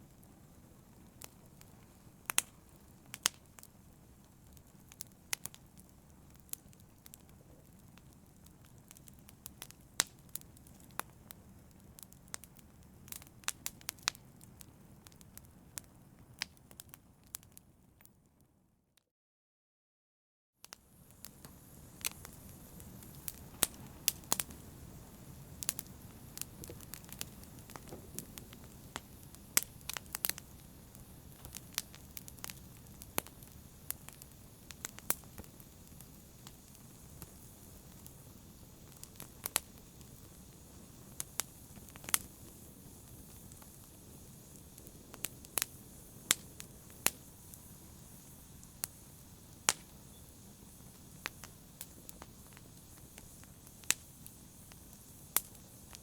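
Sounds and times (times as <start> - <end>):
wood fire burning: 0.0 - 18.2, 20.6 - 56.0
fire crackles and pops: 0.0 - 18.5, 20.6 - 56.0.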